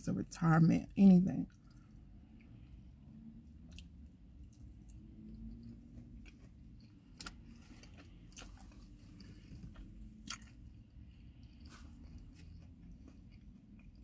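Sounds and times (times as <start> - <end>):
person chewing: 1.5 - 2.7, 3.5 - 14.0.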